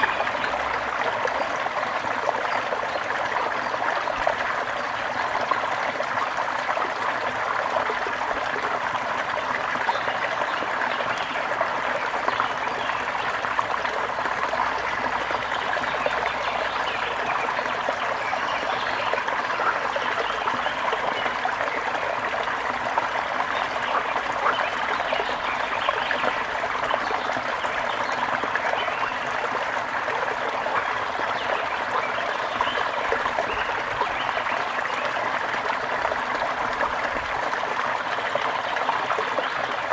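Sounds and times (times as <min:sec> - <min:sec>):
brook trickling over stones: 0:00.0 - 0:39.9.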